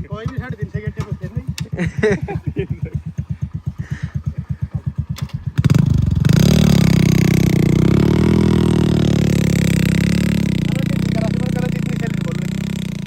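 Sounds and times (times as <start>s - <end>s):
heavy diesel engine: 1.2s - 13.0s.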